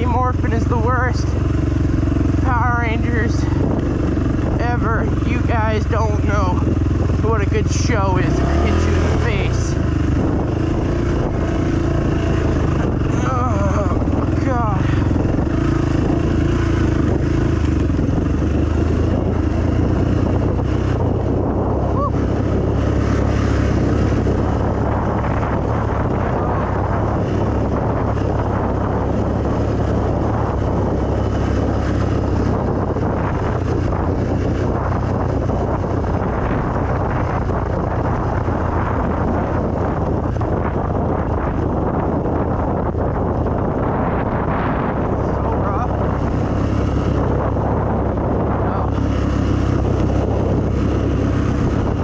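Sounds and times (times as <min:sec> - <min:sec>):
dirt bike engine running: 0:00.0 - 0:52.0
wind buffeting microphone: 0:00.0 - 0:52.0.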